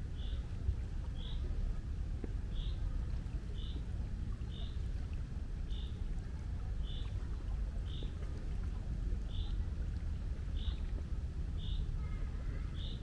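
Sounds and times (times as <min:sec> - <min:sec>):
sea water and wind rumble: 0:00.0 - 0:13.0.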